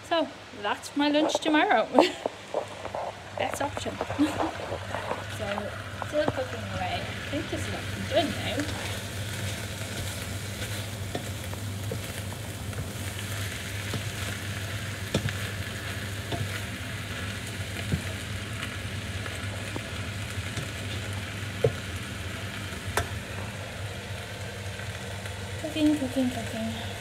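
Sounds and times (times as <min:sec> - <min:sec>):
steady low hum: 0:00.0 - 0:27.0
meat sizzling in a frying pan: 0:01.0 - 0:27.0.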